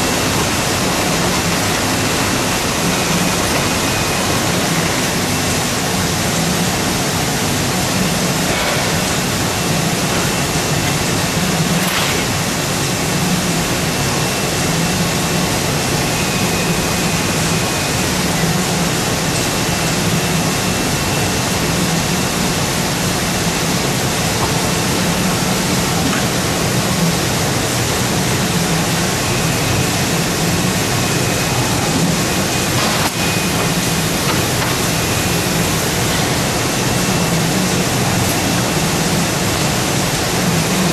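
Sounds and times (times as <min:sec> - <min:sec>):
paper cutting machine humming: 0:00.0 - 0:40.9.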